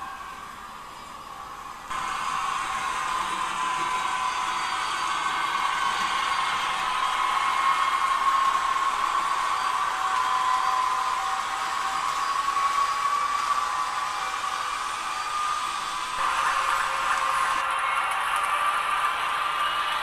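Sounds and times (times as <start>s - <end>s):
model train motor whirring: 1.9s - 18.6s.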